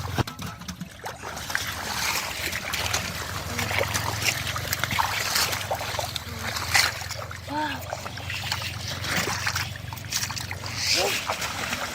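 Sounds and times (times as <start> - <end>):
low steady hum: 0.0 - 11.9
muddy water splashing: 0.0 - 11.9.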